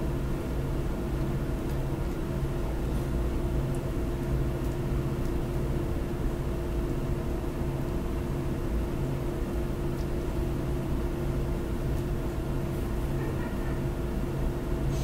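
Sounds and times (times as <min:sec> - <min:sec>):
background hum with hiss: 0:00.0 - 0:15.0.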